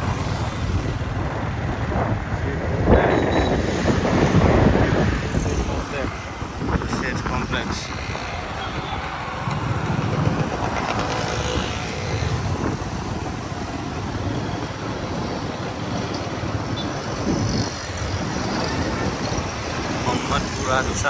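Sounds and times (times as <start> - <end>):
engine and tyre rumble: 0.0 - 21.0
motorbikes passing: 0.0 - 21.0.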